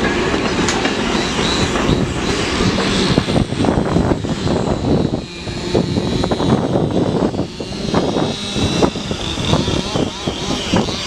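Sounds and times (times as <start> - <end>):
train rushing rumble: 0.0 - 11.0
wheels knocking on track: 0.0 - 11.0.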